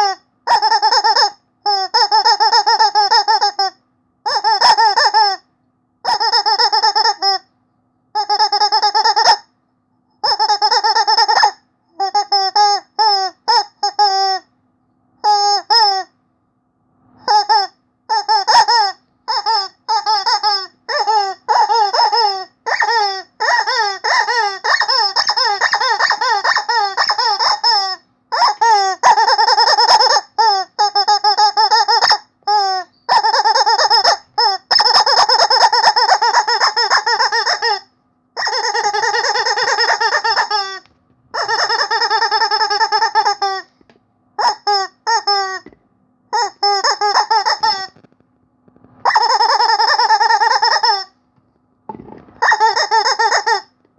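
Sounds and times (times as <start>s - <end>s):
rubber chicken toy squeaking: 0.0s - 7.5s, 8.2s - 9.6s, 10.2s - 14.5s, 15.2s - 16.2s, 17.2s - 43.8s, 44.4s - 48.1s, 49.0s - 51.2s, 51.9s - 53.8s.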